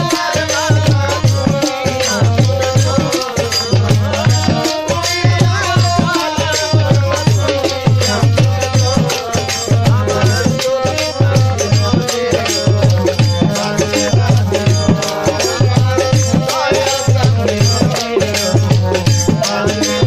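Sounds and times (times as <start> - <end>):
rattling hand percussion: 0.0 - 20.0
deep drum beating: 2.2 - 20.0.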